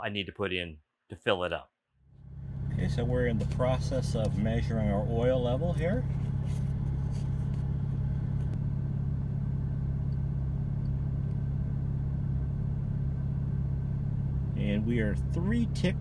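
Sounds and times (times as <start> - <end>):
car engine idling: 2.1 - 16.0.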